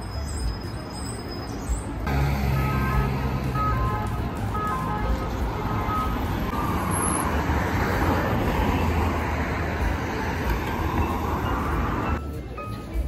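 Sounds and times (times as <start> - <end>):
cars and motorbikes passing: 1.5 - 13.0.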